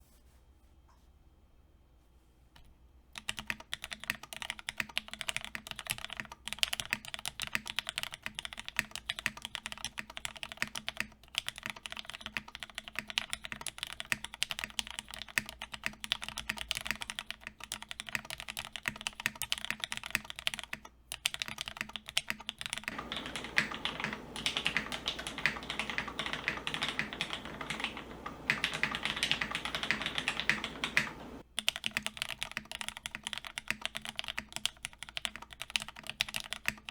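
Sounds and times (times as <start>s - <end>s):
mechanical keyboard typing: 3.2s - 36.9s.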